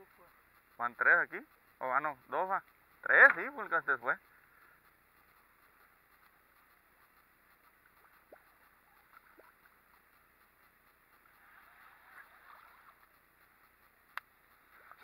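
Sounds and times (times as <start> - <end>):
faint outdoor hiss: 0.0 - 15.0
soft ticks: 0.0 - 15.0.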